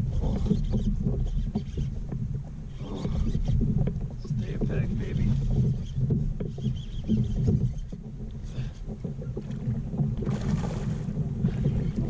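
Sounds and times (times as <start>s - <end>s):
rumble of wind and water: 0.0s - 12.0s.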